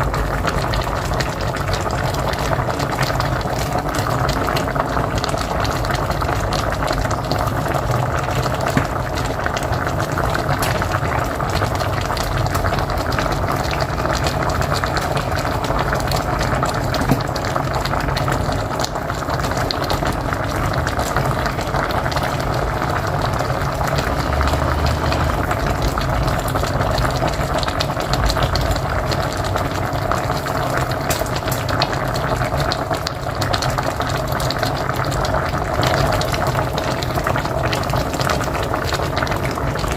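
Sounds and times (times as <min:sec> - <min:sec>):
pot boiling and bubbling: 0:00.0 - 0:39.9.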